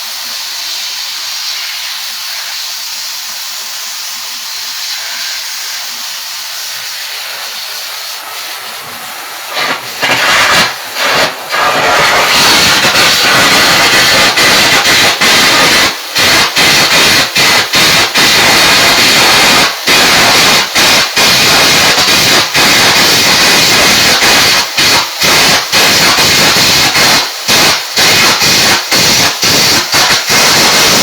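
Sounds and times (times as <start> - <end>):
arc welding hissing and crackling: 0.0 - 31.0.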